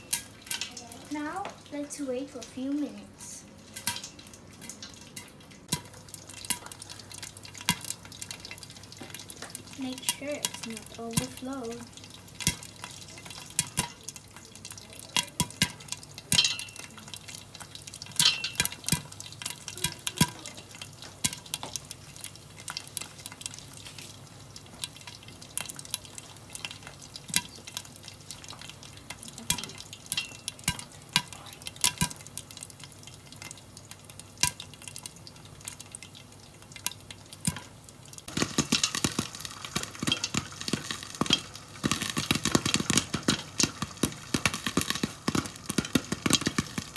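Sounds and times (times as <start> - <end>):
corn kernels popping: 0.0 - 1.8, 3.7 - 46.9
faint oil sizzle: 0.0 - 46.9.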